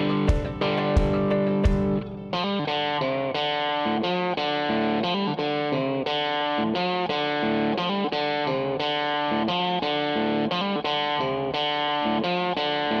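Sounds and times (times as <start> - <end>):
electric guitar playing chords: 0.0 - 13.0.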